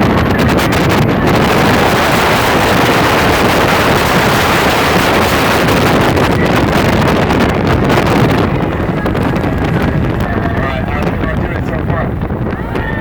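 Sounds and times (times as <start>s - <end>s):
boat engines: 0.0s - 13.0s
rushing water: 0.0s - 13.0s
wind noise on microphone: 0.0s - 13.0s.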